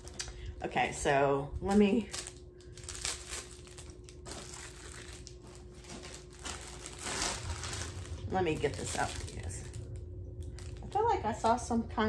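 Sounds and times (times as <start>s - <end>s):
packaging crinkling: 0.0s - 1.0s, 1.6s - 11.1s.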